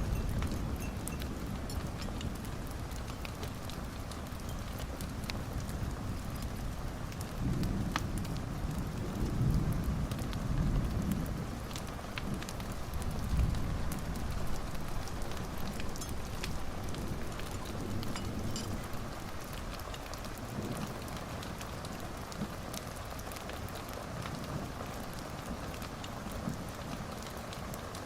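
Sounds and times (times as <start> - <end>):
fireplace fire crackling: 0.0 - 28.0.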